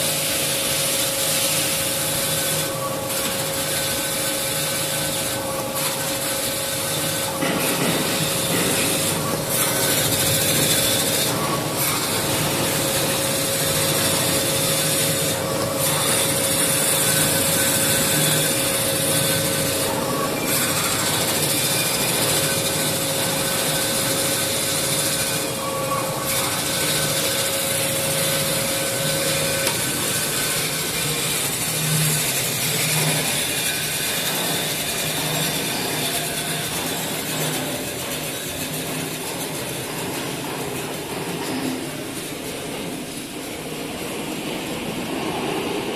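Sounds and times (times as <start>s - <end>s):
saw blade rasping through paper: 0.0s - 40.2s
band saw machine hum: 0.0s - 45.0s.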